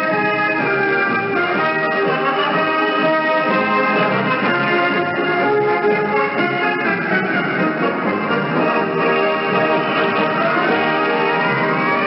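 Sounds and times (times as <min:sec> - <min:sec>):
orchestral music over radio: 0:00.0 - 0:12.0.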